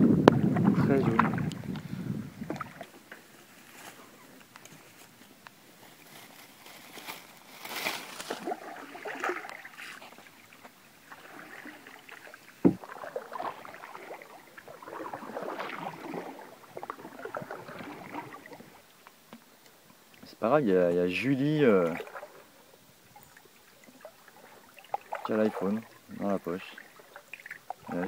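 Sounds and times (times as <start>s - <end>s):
paddle splashing water: 0.3s - 4.9s, 6.7s - 20.2s, 21.2s - 28.0s.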